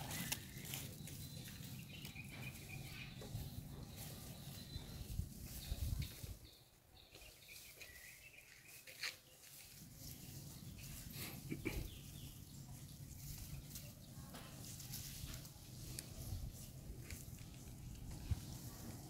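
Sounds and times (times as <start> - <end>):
rustles and clicks: 0.0 - 6.6, 7.2 - 19.0.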